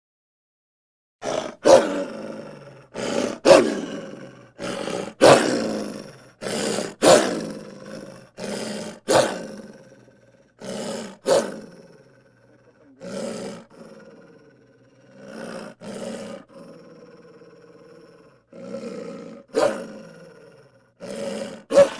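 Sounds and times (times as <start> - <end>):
wolf harsh vocal outbursts: 1.2 - 21.9.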